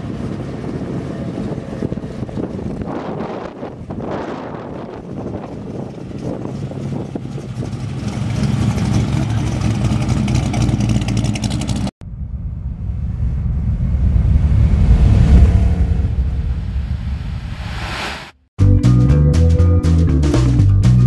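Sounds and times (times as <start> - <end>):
car engine rumbling pulling away: 0.0 - 17.5.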